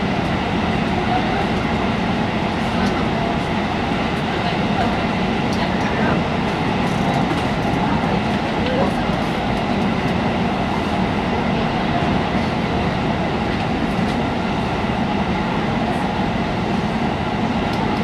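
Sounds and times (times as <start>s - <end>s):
train wheels rumbling in tunnel: 0.0s - 18.0s.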